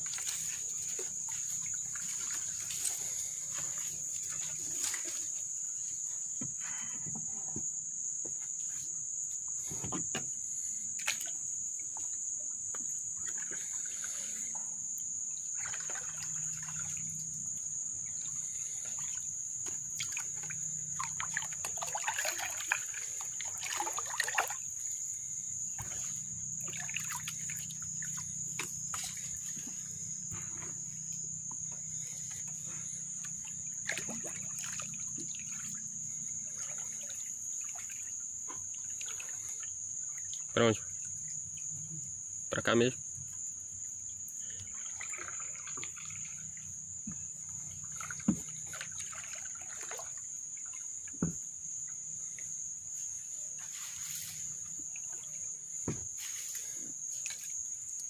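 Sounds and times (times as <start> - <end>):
paddle strokes splashing water: 0.0 - 6.4, 10.5 - 41.6, 44.4 - 58.0
high-pitched insect drone: 0.0 - 58.0.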